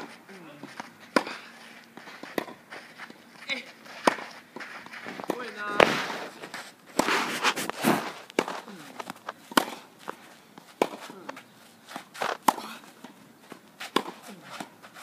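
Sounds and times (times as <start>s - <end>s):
rackets hitting tennis ball: 0.0s - 15.0s
shoes scuffing on clay: 0.0s - 15.0s.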